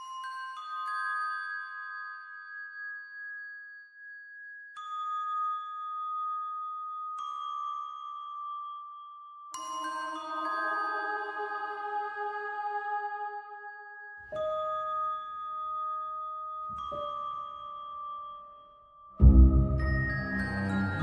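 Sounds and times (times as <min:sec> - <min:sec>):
bell-like chime chords: 0:00.0 - 0:12.4, 0:13.4 - 0:21.0.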